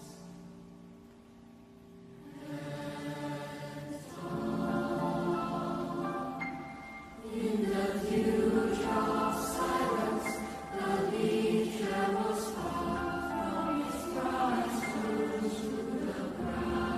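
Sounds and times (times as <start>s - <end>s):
choir singing in harmony: 2.1s - 16.9s.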